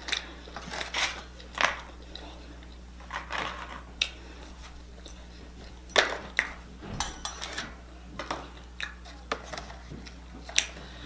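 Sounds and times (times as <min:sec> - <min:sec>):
person chewing crunchy chips: 0:00.0 - 0:11.0
steady low hum: 0:00.0 - 0:11.0.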